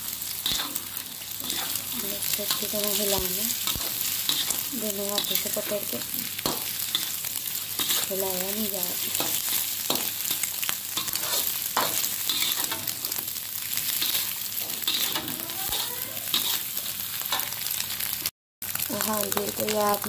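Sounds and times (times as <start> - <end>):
vegetables sizzling in a wok: 0.0 - 20.0
spatula scraping the pan: 0.4 - 17.6.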